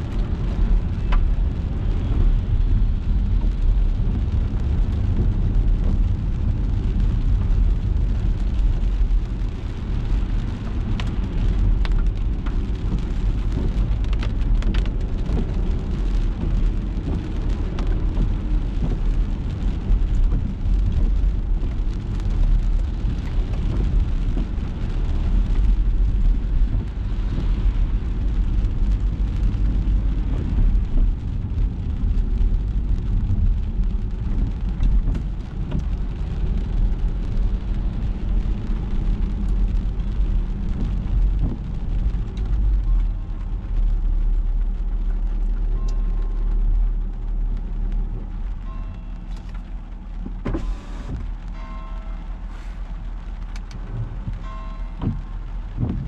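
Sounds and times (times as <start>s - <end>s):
car driving on wet road: 0.0s - 56.0s
rain on a moving car: 0.0s - 56.0s.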